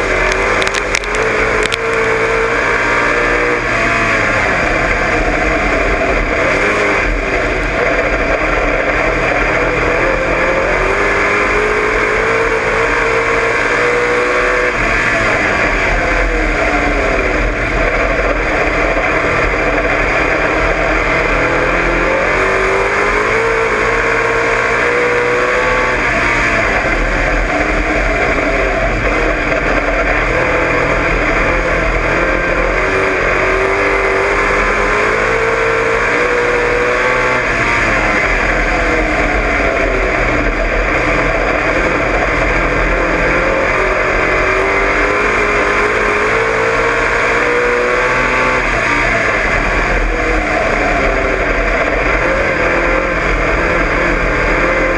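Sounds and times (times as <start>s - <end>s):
race car engine running hard: 0.0s - 54.9s.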